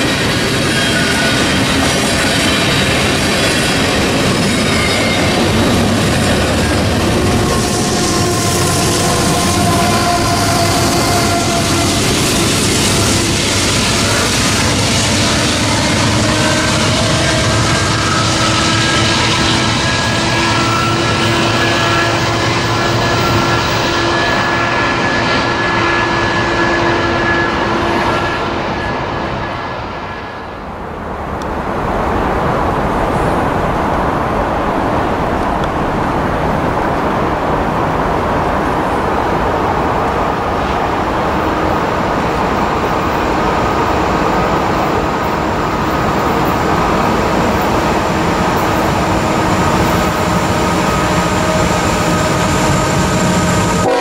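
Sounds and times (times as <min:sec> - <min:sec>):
freight train passing: 0:00.0 - 0:54.0
freight train rumbling past: 0:00.0 - 0:54.0.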